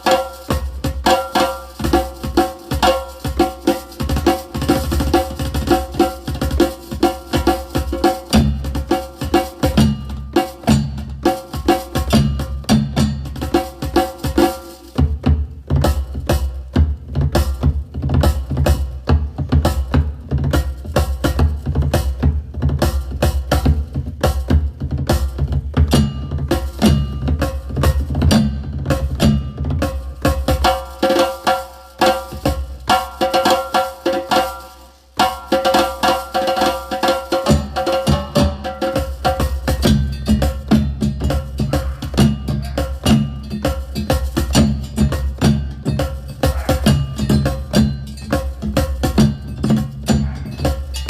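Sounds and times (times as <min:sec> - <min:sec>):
finger-drummed percussion: 0:00.0 - 0:51.0.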